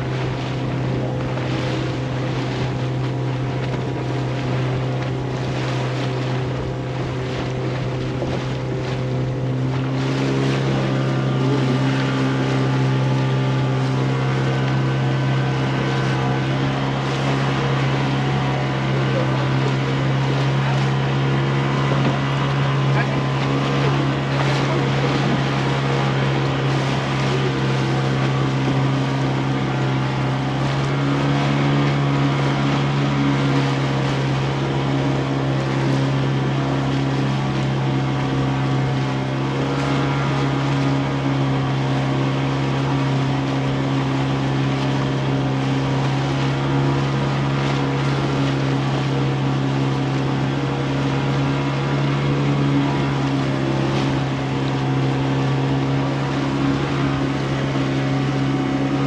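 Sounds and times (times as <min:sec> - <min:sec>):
motorboat engine droning: 0:00.0 - 0:59.0
water noise: 0:00.0 - 0:59.0
wind: 0:00.0 - 0:59.0.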